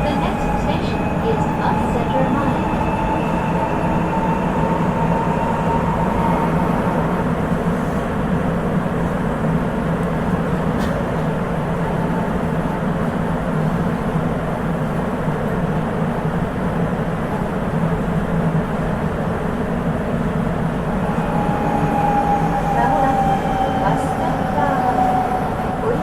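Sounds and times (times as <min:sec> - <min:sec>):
subway car rumbling: 0:00.0 - 0:26.0.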